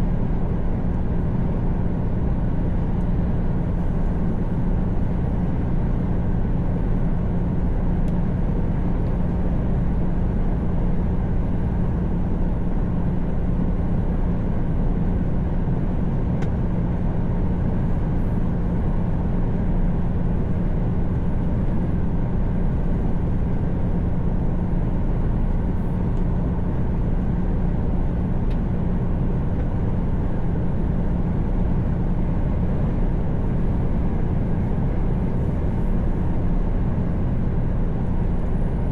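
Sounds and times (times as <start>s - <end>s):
road and tyre noise: 0.0s - 38.9s
truck engine hum: 0.0s - 38.9s.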